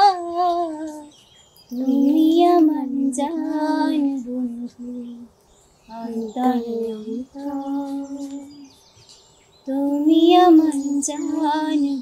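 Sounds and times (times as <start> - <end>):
woman singing slow melody: 0.0 - 8.9, 9.6 - 12.0.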